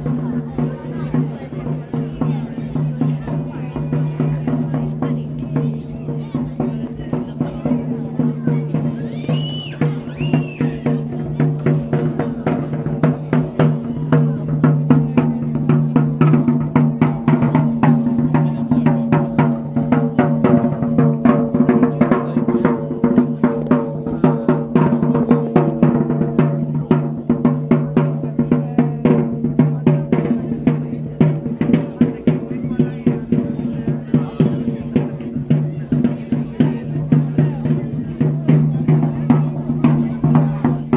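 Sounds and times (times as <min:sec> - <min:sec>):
fast dense drumming: 0:00.0 - 0:40.9.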